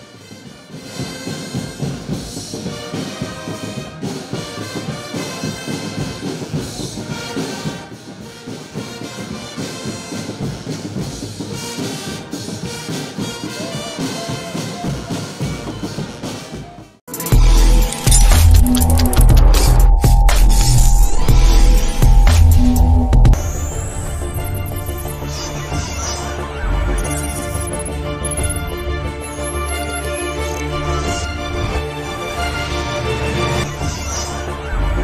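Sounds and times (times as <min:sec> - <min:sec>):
brass instruments: 0:00.0 - 0:19.8, 0:20.4 - 0:35.0
drumbeats: 0:00.1 - 0:35.0.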